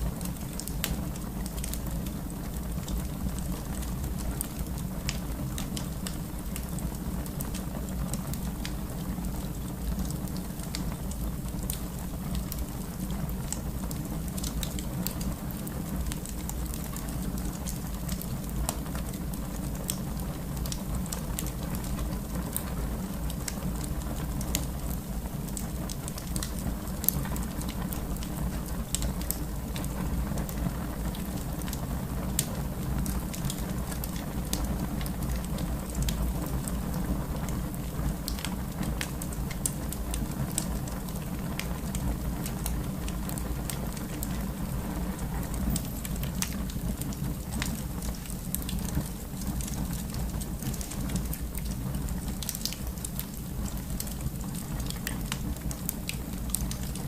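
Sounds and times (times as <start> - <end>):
fire burning in fireplace: 0.0 - 57.0
fire crackling and popping: 0.0 - 57.0.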